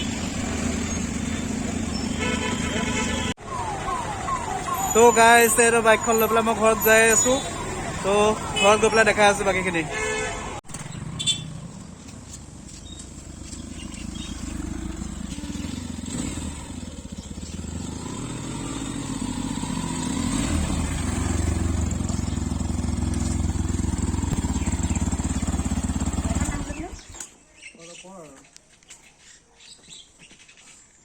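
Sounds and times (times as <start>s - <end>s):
motorcycle engine running: 0.0s - 5.0s, 5.7s - 27.2s.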